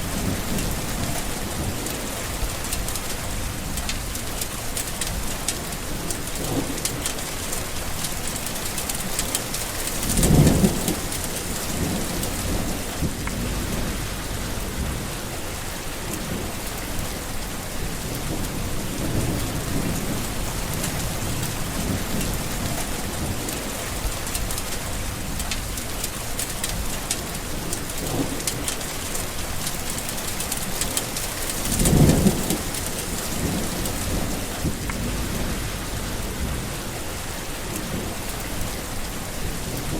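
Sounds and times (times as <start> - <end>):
thunder rumbling: 0.0 - 26.0, 26.6 - 39.9
heavy rain falling: 0.0 - 39.9.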